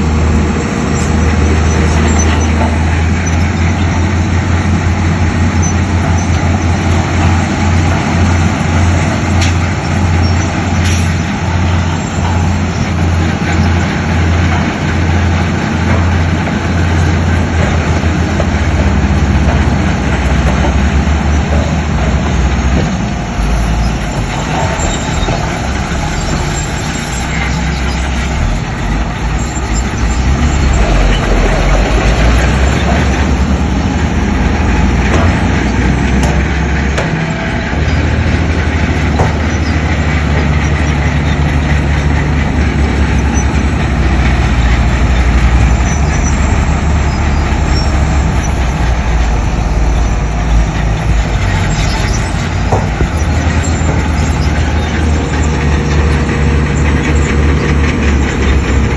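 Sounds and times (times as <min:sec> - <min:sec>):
diesel machinery engine drone: 0:00.0 - 0:58.9.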